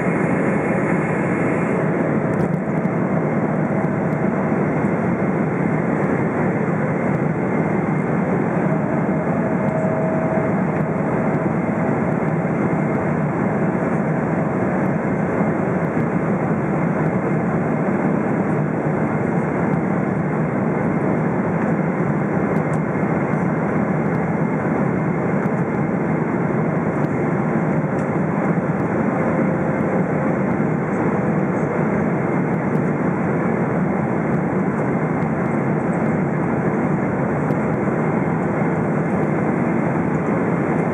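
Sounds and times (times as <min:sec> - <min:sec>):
airplane cabin engine and airflow noise: 0:00.0 - 0:40.9.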